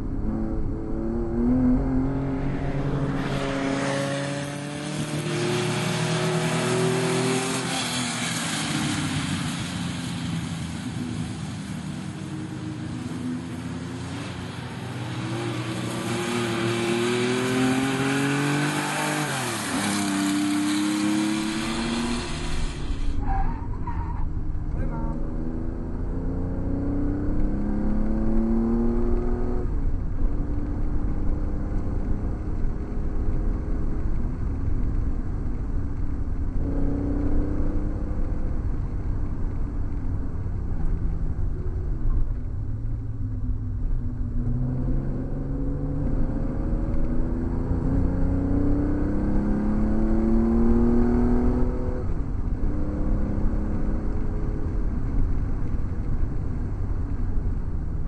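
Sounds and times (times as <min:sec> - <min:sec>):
car engine accelerating: 0:00.0 - 0:09.7, 0:12.4 - 0:57.8.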